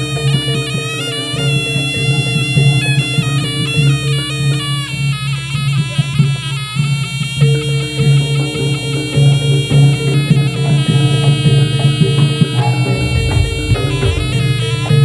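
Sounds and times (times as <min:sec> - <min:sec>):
drums and gongs beat: 0:00.0 - 0:04.0, 0:04.9 - 0:15.0
reed wind instrument melody: 0:00.0 - 0:15.0.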